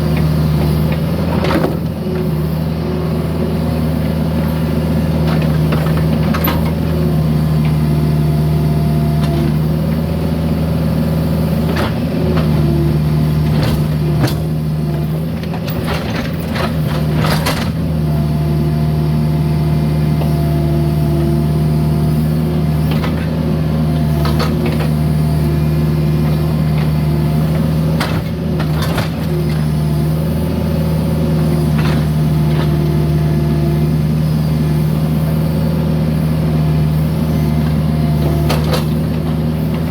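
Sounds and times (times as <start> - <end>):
diesel engine running: 0.0 - 39.9
hydraulic whine: 6.2 - 39.9.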